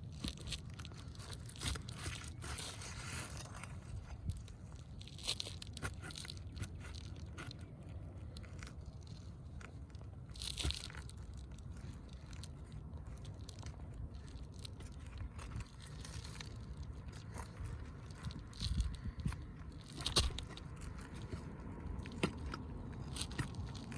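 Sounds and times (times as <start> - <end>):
low steady rumble: 0.0 - 23.9
roof shingles scraping and crunching: 0.0 - 23.9.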